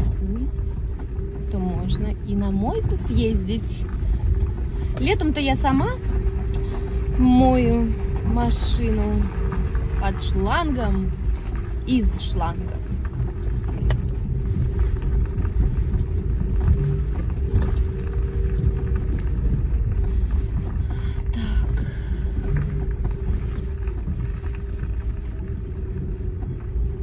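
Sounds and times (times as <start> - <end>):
car engine and road noise: 0.0 - 27.0
faint constant hum: 0.0 - 27.0.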